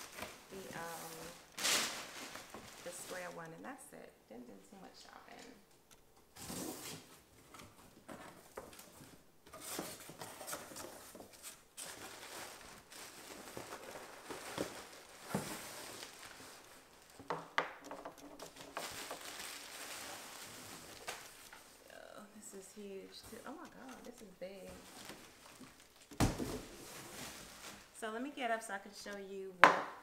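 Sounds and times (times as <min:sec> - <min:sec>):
cardboard and plastic wrap rustling: 0:00.0 - 0:03.8, 0:06.4 - 0:17.5, 0:18.1 - 0:29.4.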